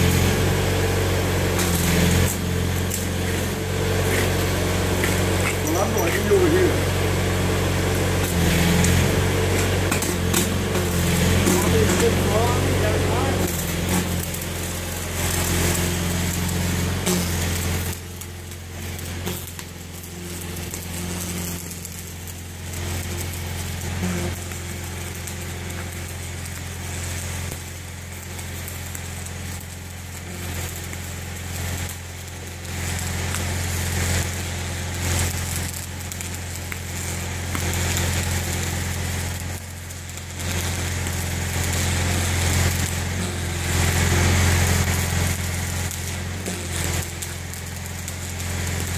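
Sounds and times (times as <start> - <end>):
welding arc crackling: 0.0 - 48.9
engine droning: 0.4 - 47.6.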